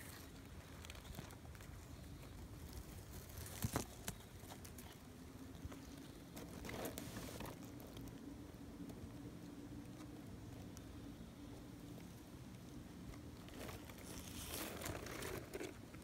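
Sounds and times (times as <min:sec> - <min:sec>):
rustling of grass and leaves: 0:00.0 - 0:16.0.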